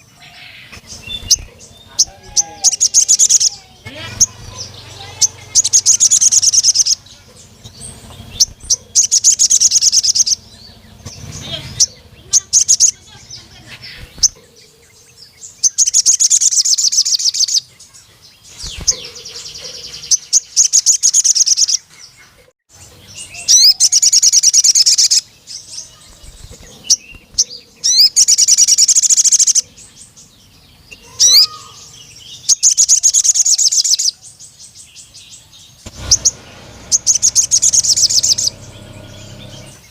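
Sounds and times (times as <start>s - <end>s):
bird high-pitched trilling: 0.0s - 21.9s, 22.8s - 30.2s, 30.8s - 39.9s.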